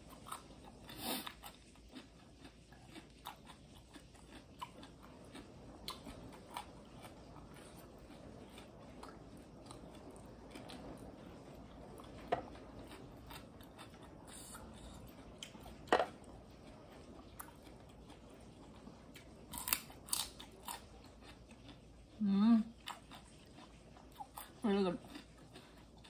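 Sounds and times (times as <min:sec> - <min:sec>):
quiet chewing: 0:00.0 - 0:26.0.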